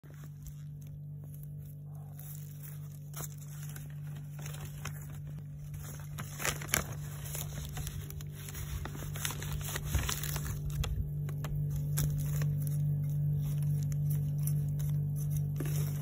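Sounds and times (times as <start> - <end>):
plastic bag crinkling: 0.0 - 16.0
steady low hum: 0.0 - 16.0.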